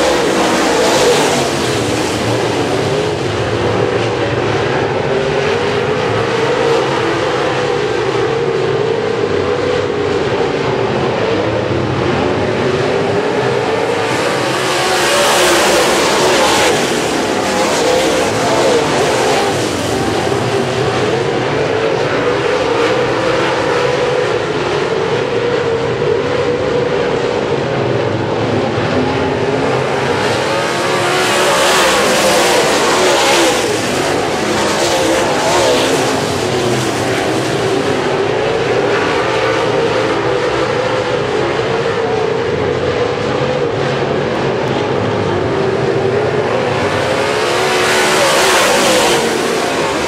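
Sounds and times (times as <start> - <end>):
race car engines: 0.0 - 50.0.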